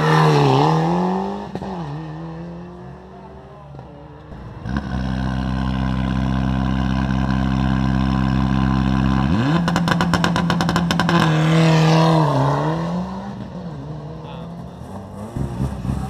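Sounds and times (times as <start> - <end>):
rally car engine revving: 0.0 - 3.1, 3.7 - 16.0.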